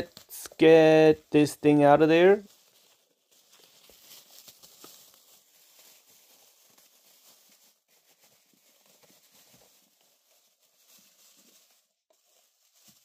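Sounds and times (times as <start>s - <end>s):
plastic bag crinkling: 1.1s - 13.0s.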